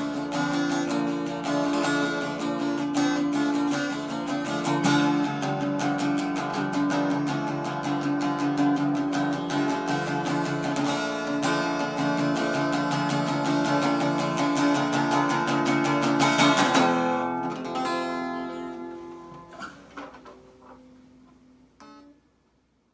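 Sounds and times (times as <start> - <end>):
acoustic guitar strumming: 0.0 - 22.3.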